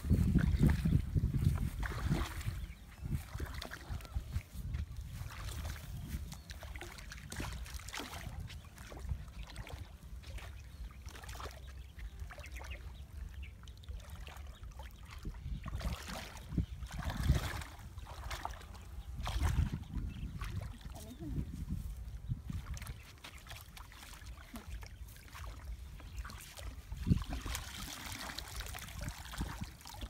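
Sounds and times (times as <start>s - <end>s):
wading through muddy water: 0.0s - 30.0s.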